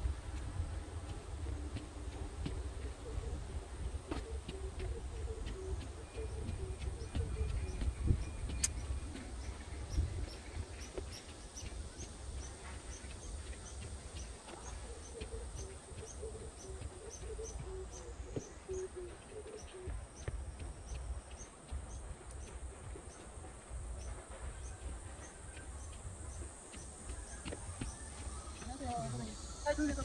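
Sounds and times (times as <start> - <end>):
cicadas droning: 0.0 - 30.0.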